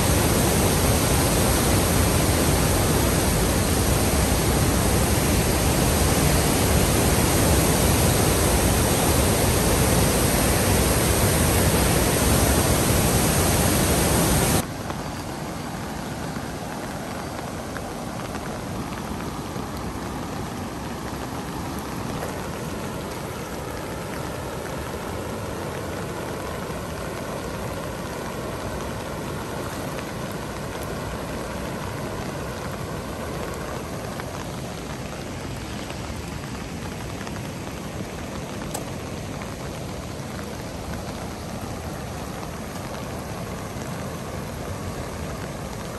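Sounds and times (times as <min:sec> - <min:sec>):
flooded river rushing: 0:00.0 - 0:45.9
rain falling: 0:00.0 - 0:45.9.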